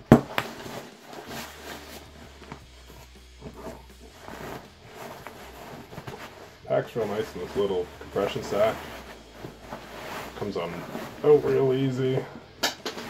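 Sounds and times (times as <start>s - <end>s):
cloth sack rustling: 0.0s - 13.0s.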